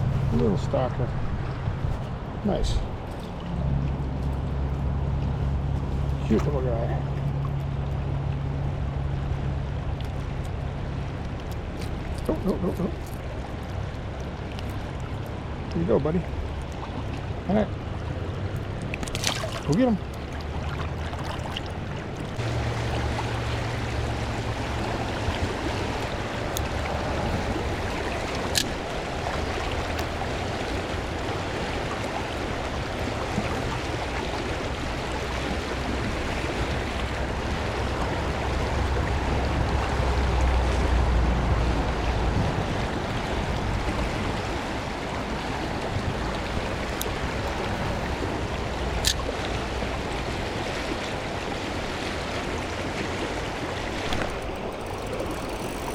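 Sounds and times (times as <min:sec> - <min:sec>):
stream water rushing: 0:00.0 - 0:55.9
wind rumble on microphone: 0:00.0 - 0:55.9.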